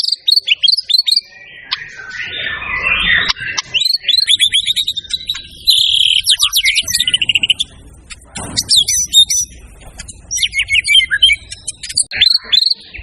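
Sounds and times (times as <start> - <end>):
songbird whistling and trilling: 0.0 - 7.8, 8.4 - 13.0.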